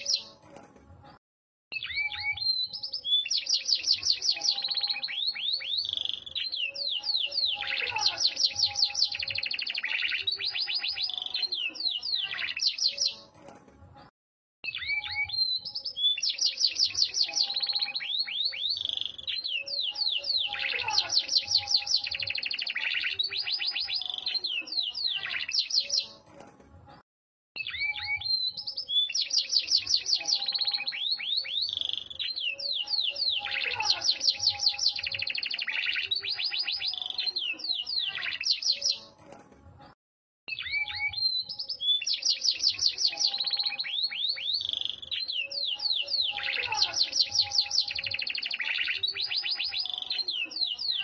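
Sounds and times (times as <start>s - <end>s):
canary singing trills: 1.7s - 13.3s, 14.6s - 26.2s, 27.6s - 39.2s, 40.5s - 51.0s.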